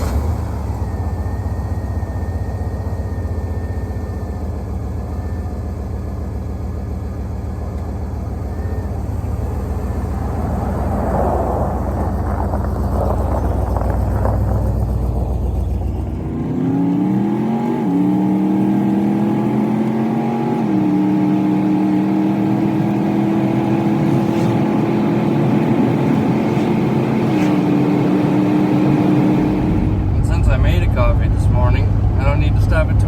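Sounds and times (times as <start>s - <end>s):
van engine accelerating: 0.0s - 33.0s.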